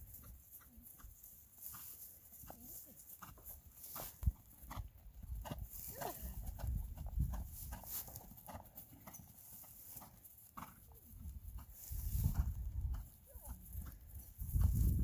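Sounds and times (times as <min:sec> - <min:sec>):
horse hooves trotting on grass: 0:00.0 - 0:15.0.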